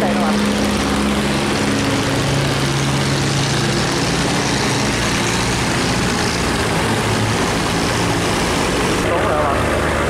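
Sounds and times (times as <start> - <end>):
boat engine running: 0.0 - 10.0
turbulent water churning: 0.0 - 10.0.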